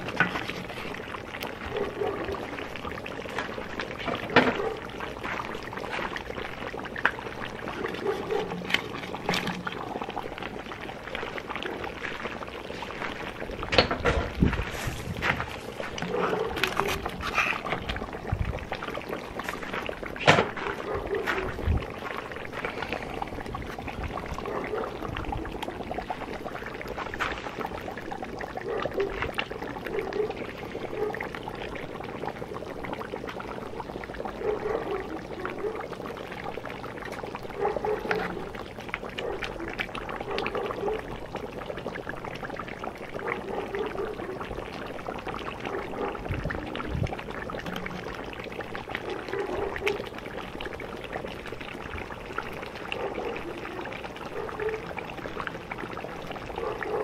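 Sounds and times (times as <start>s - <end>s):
gravy bubbling and gurgling: 0.0s - 57.0s.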